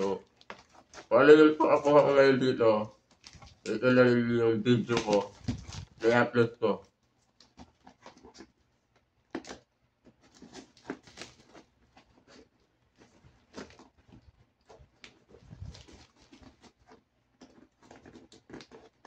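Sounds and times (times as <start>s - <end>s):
plastic crinkling: 0.0s - 19.0s.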